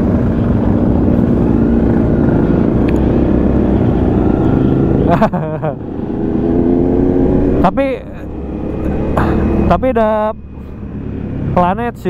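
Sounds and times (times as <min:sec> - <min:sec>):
motorcycle engine running at low speed: 0:00.0 - 0:12.0.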